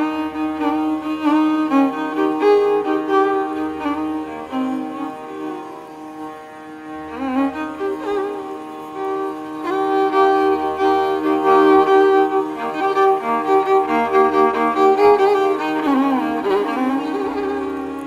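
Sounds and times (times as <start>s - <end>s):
bowed string melody: 0.0s - 18.0s.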